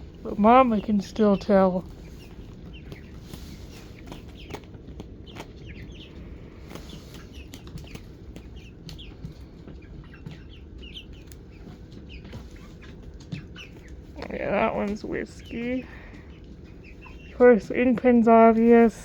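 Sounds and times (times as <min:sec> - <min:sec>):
chickens peeping and clucking: 0:00.0 - 0:19.0.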